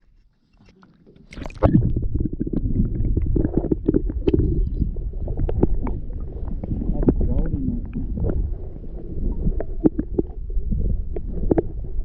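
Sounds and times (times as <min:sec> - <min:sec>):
heavy low rumble: 0:01.7 - 0:12.0.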